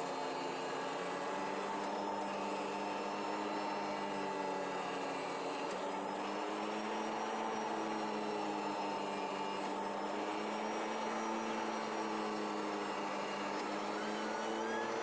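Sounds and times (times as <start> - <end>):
cutting machine hum: 0.0 - 15.0.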